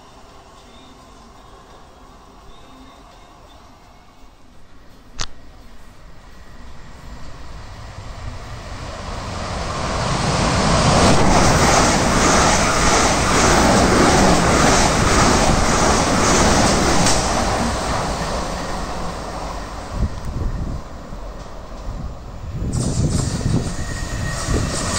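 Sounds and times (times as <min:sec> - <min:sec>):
train rumble with wheel noise: 0:00.0 - 0:24.9.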